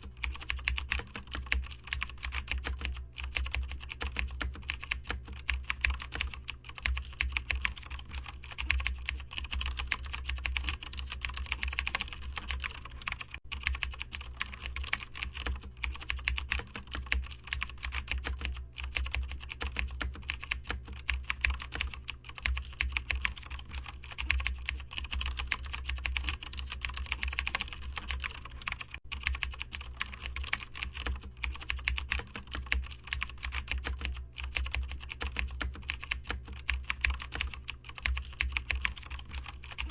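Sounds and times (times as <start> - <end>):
keyboard typing: 0.0 - 39.9
low steady hum: 0.0 - 39.9.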